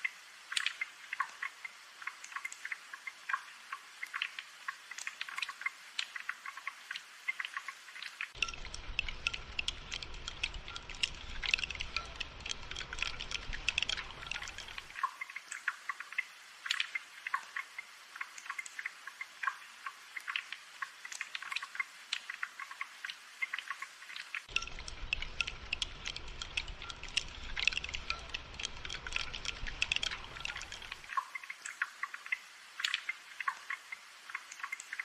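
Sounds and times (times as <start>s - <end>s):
gentle rain patter: 0.0s - 35.0s.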